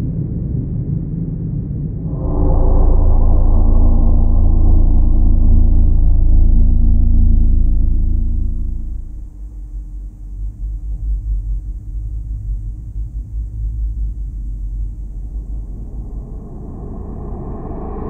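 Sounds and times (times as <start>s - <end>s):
deep pulsing low rumble: 0.0s - 18.0s.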